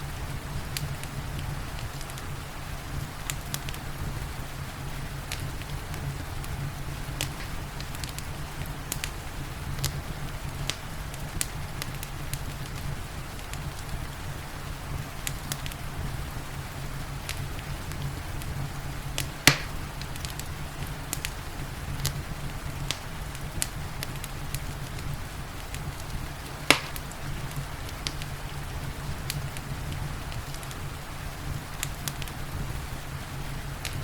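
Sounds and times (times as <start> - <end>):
rain hissing: 0.0 - 34.0
wood fire crackling: 0.0 - 34.0
loud fire pops: 0.3 - 34.0.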